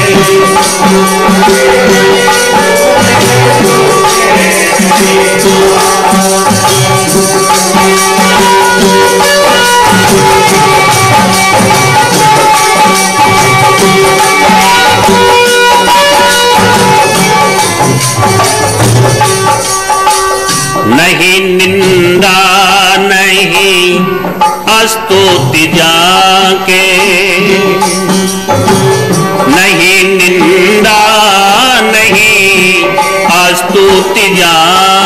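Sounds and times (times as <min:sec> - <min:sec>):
jingling hand percussion: 0:00.0 - 0:35.0
person singing: 0:00.0 - 0:35.0
steady held tones: 0:00.0 - 0:35.0.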